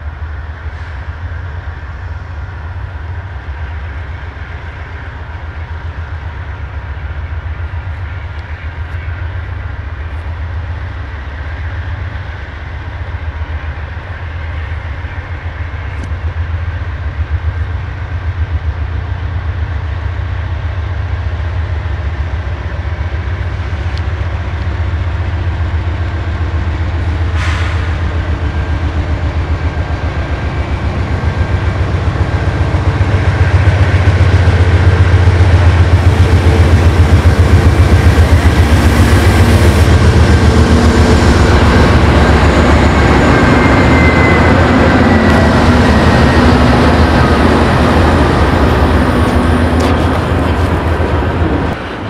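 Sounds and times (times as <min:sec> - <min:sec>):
diesel locomotives passing: 0:00.0 - 0:52.0.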